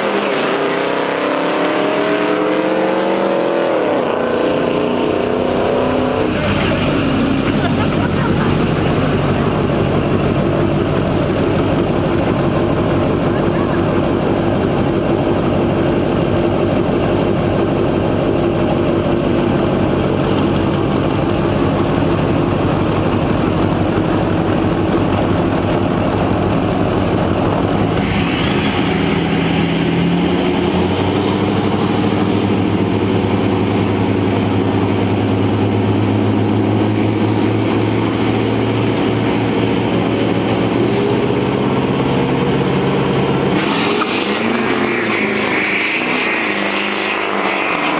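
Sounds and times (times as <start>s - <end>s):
diesel engines droning: 0.0s - 47.9s.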